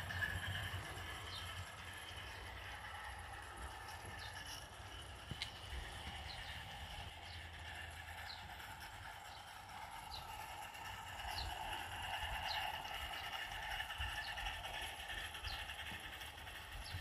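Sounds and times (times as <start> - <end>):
model locomotive running: 0.0 - 17.0.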